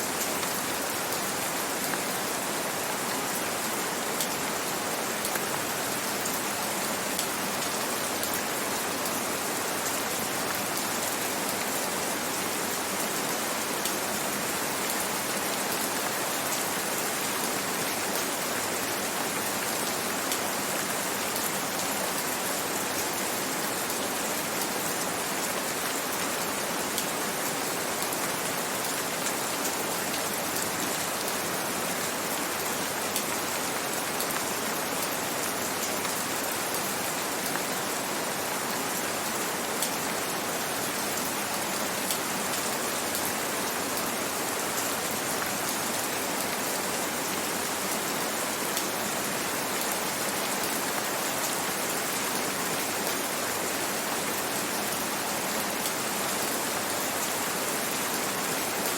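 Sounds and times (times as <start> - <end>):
gentle rain falling: 0.0 - 58.9.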